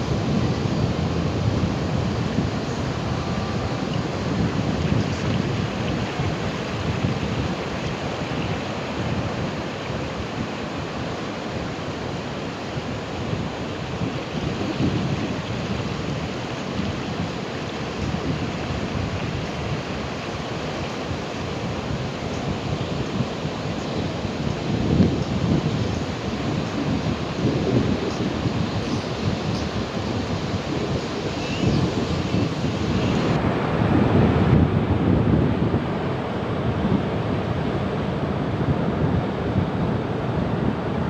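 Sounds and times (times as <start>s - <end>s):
ocean surf breaking: 0.0s - 41.0s.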